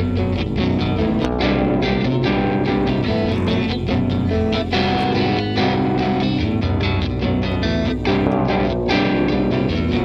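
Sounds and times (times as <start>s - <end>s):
guitar-led band music: 0.0s - 10.0s.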